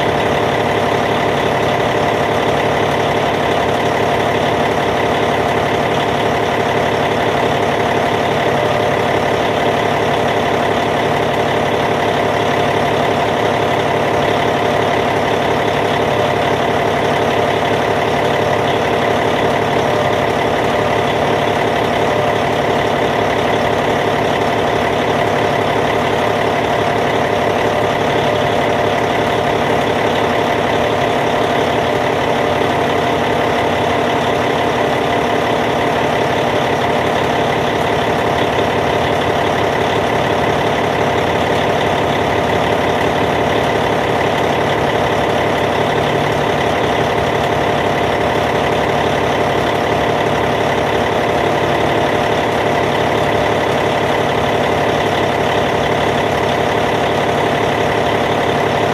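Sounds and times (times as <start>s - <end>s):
bulldozer diesel engine idling: 0.0s - 58.9s.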